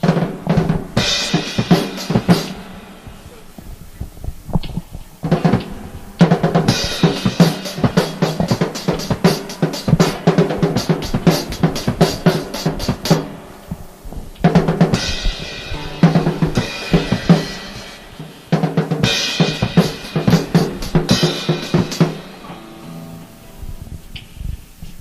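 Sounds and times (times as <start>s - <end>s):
rock drum kit playing: 0.0s - 24.8s
crashing cymbals: 0.0s - 25.0s
sustained instrument tones: 0.0s - 25.0s.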